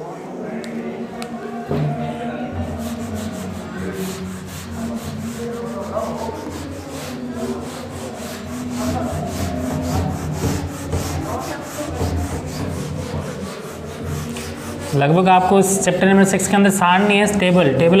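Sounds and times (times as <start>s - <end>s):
eraser scrubbing whiteboard: 2.5s - 18.0s.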